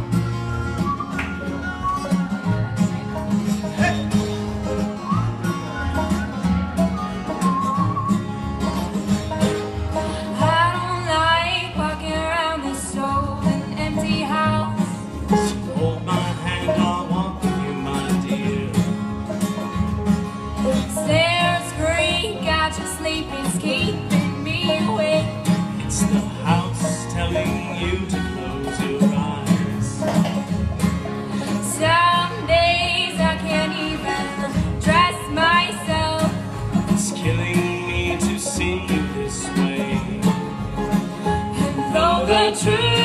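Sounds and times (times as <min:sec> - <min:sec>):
banjo: 0:00.0 - 0:43.0
sliding melody line: 0:00.0 - 0:43.0
strummed acoustic guitar: 0:00.0 - 0:43.0
upright bass: 0:00.0 - 0:43.0.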